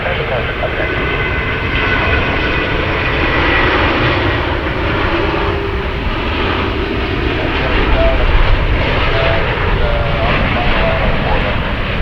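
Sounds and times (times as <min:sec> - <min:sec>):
jet engine rush: 0:00.0 - 0:12.0.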